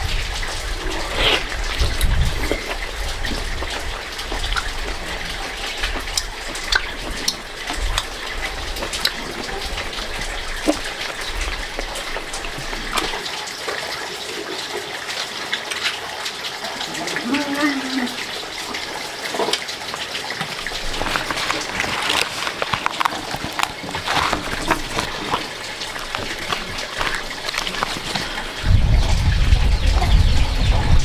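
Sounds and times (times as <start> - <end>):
water running and splashing: 0.0 - 31.0.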